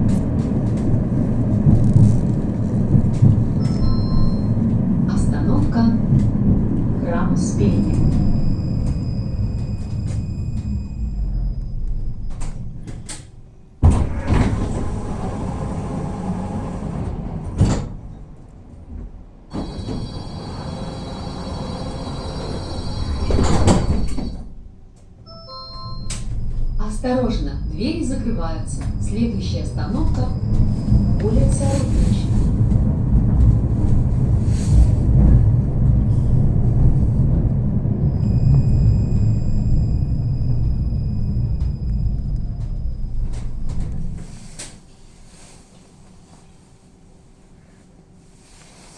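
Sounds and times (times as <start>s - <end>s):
tram door mechanism thump: 0.0s - 25.2s, 25.9s - 44.8s.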